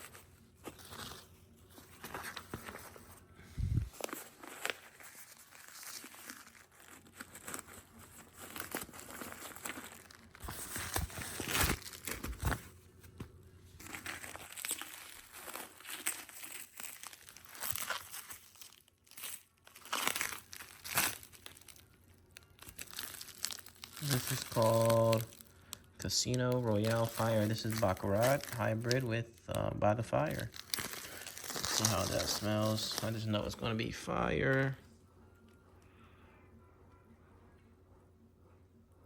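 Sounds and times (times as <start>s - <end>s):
packaging crinkling and rustling: 0.0s - 34.8s.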